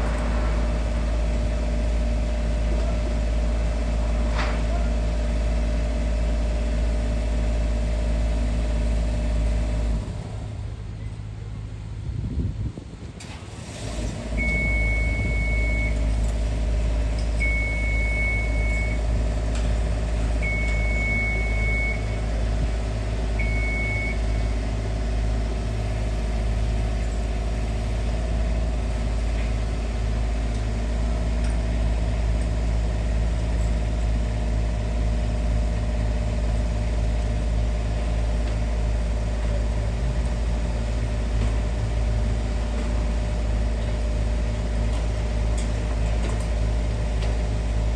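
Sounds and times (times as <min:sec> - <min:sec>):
heavy vehicle engine running: 0:00.0 - 0:47.9.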